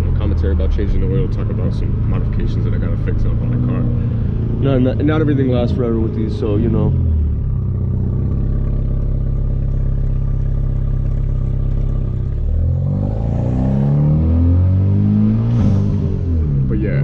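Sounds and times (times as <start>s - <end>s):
car engine droning and revving: 0.0s - 17.0s.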